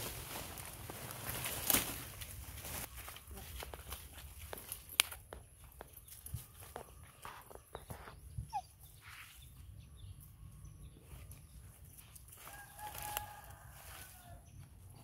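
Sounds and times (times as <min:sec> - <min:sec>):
animals walking on leafy path: 0:00.0 - 0:08.2, 0:08.9 - 0:15.0.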